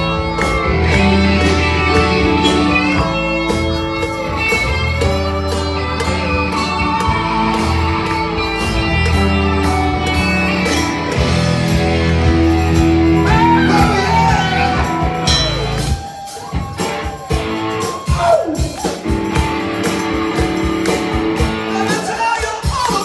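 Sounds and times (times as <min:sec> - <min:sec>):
sliding lead guitar line: 0:00.0 - 0:22.7
live band playing: 0:00.0 - 0:23.0.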